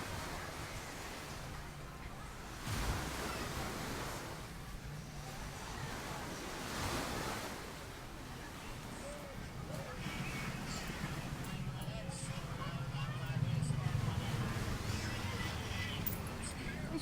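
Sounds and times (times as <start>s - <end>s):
ocean waves washing onto beach: 0.0s - 17.0s.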